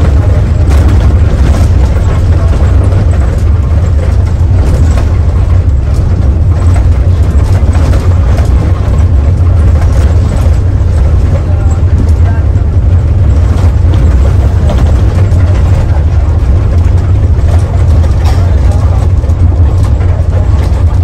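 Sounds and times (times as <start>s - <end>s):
diesel bus engine drone: 0.0s - 21.0s.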